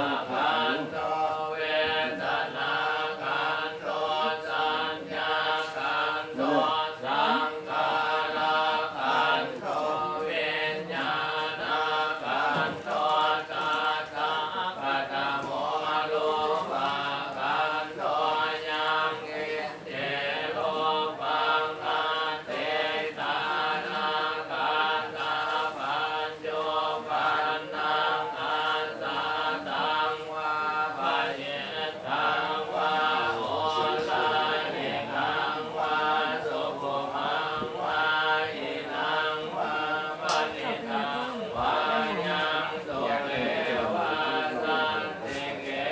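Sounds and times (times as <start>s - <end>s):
voices chanting together: 0.0s - 45.9s.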